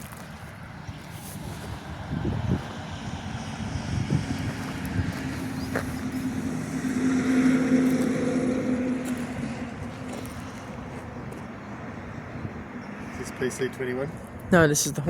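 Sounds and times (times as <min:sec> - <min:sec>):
jet flying overhead: 0:00.5 - 0:14.4.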